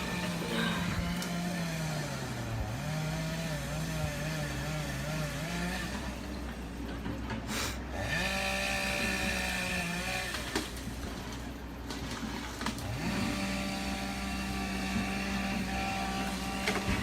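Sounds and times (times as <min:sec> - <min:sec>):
chainsaw revving: 0:00.0 - 0:06.6, 0:07.6 - 0:11.2, 0:12.6 - 0:17.0.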